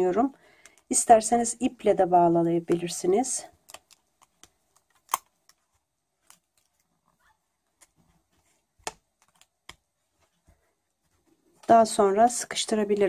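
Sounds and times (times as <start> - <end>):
faint rustling of yarn: 0.0 - 13.0.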